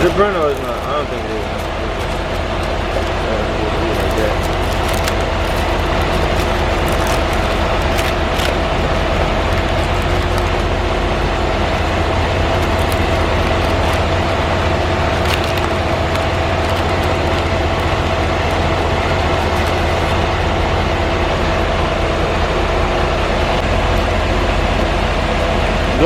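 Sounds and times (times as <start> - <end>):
truck cab mechanical drone: 0.0 - 26.0.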